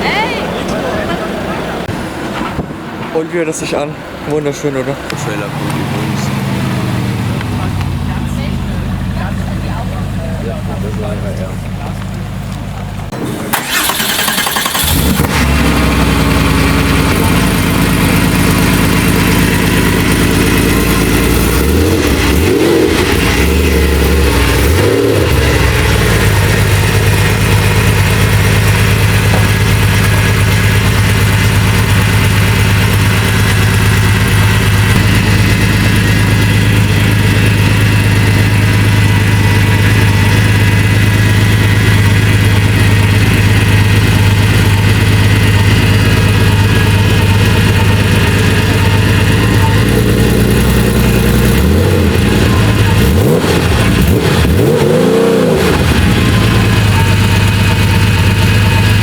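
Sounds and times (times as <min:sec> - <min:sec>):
sports car engine idling and revving: 0:00.0 - 0:59.0.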